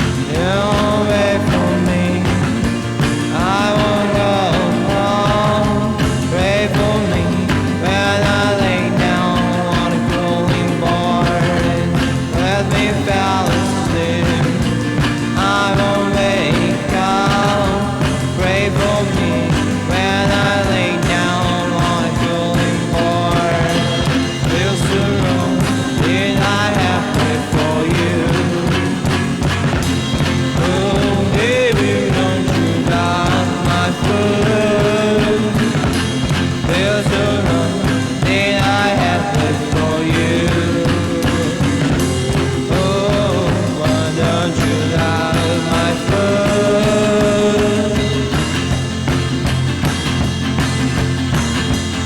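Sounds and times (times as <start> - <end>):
psychedelic rock music: 0.0 - 52.0.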